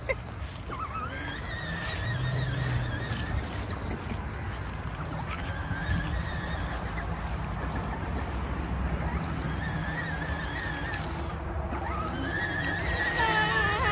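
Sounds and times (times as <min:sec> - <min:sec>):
vehicle rumble: 0:00.0 - 0:13.9.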